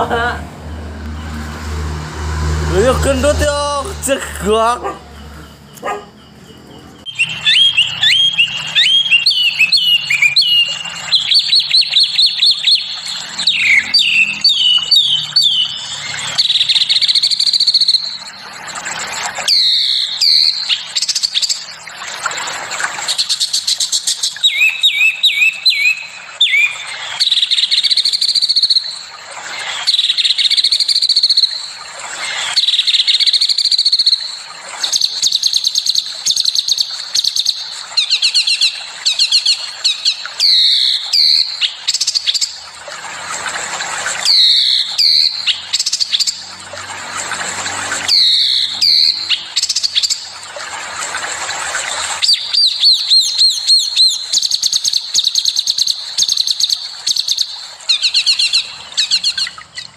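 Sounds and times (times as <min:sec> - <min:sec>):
songbirds singing: 0:00.0 - 0:42.9, 0:44.0 - 0:50.6, 0:51.7 - 0:59.9.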